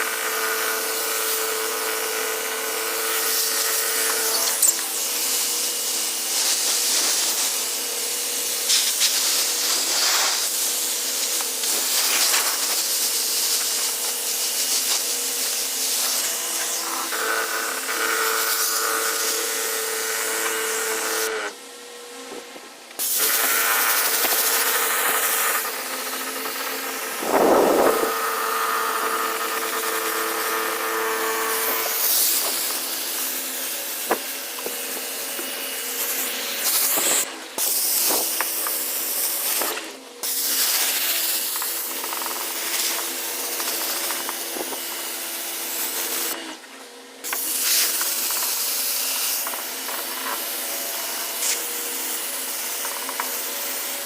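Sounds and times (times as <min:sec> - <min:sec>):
small pump motor humming: 0:00.0 - 0:54.0.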